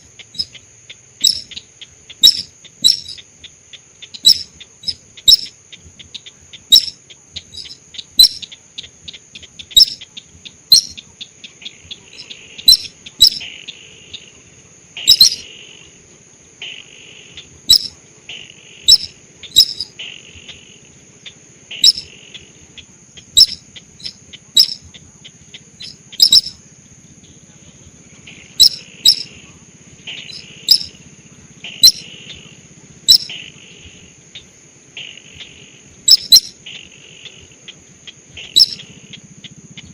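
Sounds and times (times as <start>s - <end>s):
sharp bird calls: 0.0s - 15.8s, 16.6s - 39.9s
high-pitched insect whine: 0.0s - 39.9s
soft chirring: 0.0s - 39.9s.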